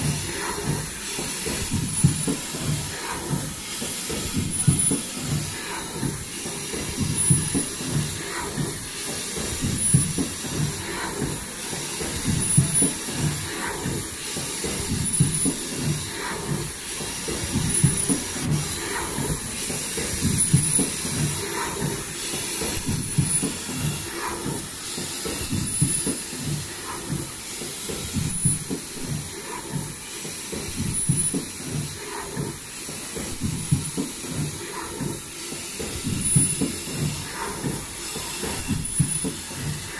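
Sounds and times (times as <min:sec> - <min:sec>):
machine clatter and hiss: 0:00.0 - 0:39.9.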